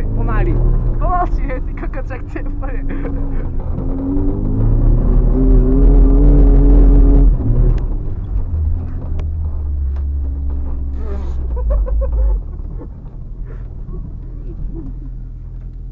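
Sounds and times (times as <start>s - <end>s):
car engine running hard: 0.0s - 15.9s.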